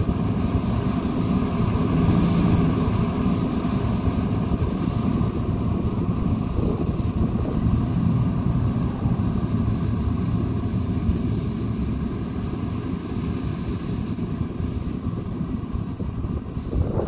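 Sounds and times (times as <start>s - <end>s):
wind noise on microphone: 0.0s - 10.3s, 12.8s - 17.0s
combine harvester rumbling: 0.0s - 17.0s
tractor working: 0.0s - 17.0s.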